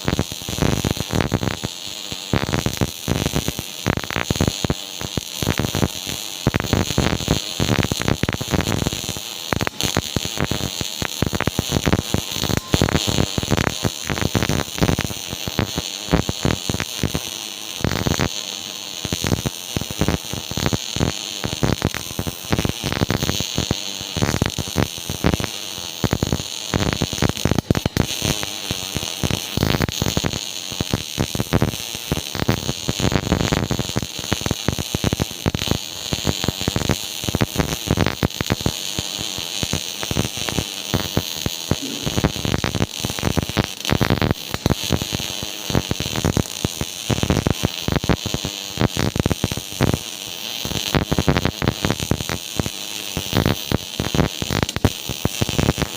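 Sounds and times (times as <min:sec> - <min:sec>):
welding arc crackling: 0:00.0 - 0:55.9.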